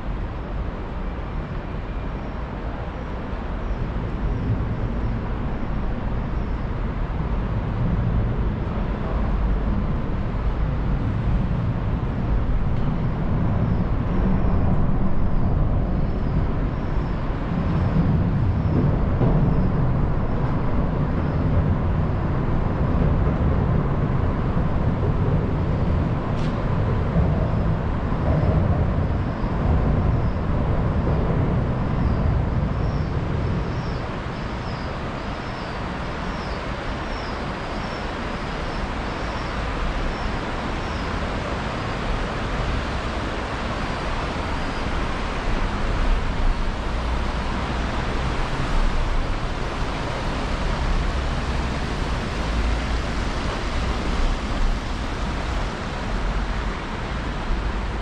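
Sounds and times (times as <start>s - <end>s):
city road traffic rumble: 0.0s - 58.0s.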